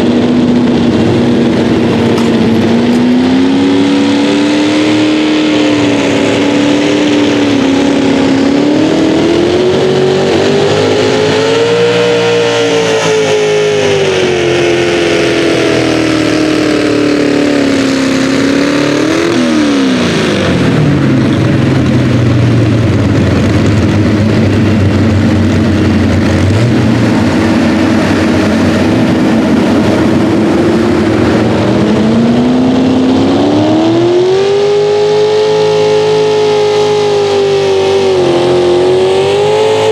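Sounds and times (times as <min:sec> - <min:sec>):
truck engine revving loudly: 0:00.0 - 0:39.9.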